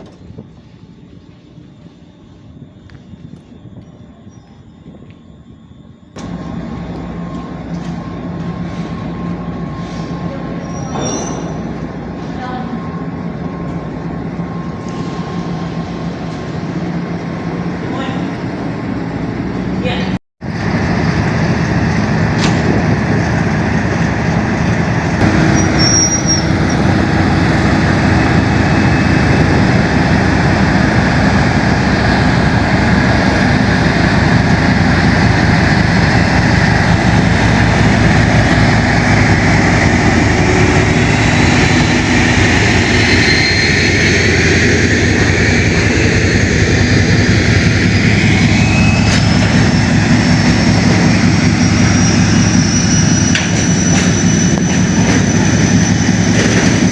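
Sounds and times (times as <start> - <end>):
rising whine: 0.0 - 19.8, 20.4 - 56.9
train running: 0.0 - 56.9.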